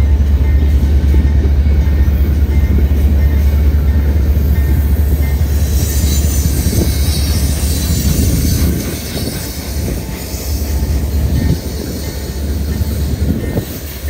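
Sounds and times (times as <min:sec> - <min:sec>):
train wheels rumbling on rail: 0:00.0 - 0:14.0
wheel squeal hiss: 0:02.7 - 0:14.0.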